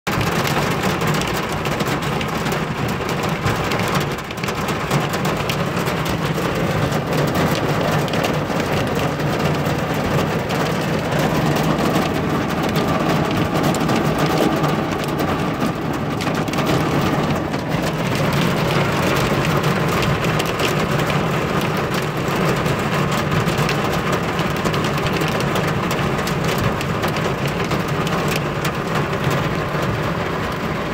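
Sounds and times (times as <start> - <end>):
hail and rain on vehicle roof: 0.1 - 30.9.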